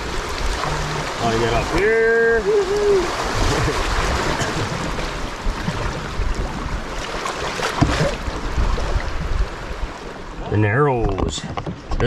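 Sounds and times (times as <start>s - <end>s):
river water rushing: 0.0s - 10.6s.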